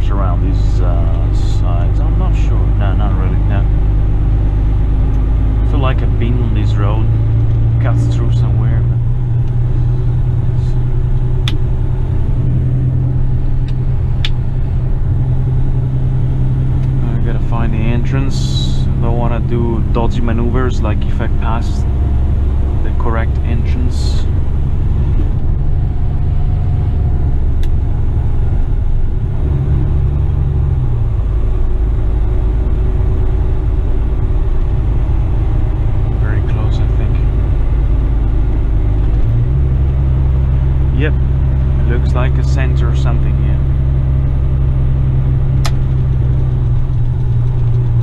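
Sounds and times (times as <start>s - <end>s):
diesel truck engine drone: 0.0s - 48.0s.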